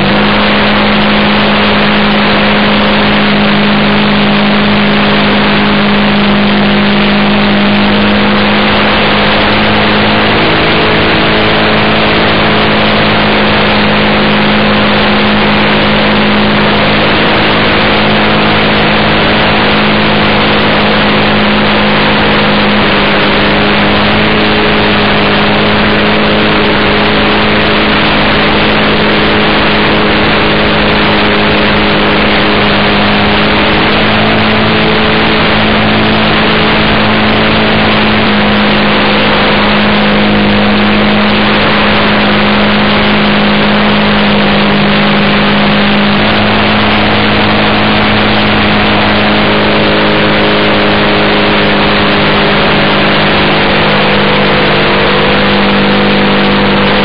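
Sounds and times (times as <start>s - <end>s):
model plane motor: 0.0s - 57.0s.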